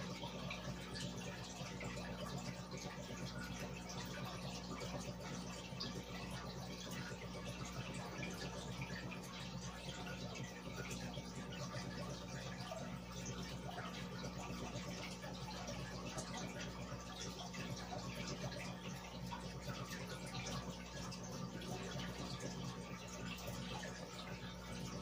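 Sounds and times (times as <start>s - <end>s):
aquarium air bubbles: 0.0s - 25.0s.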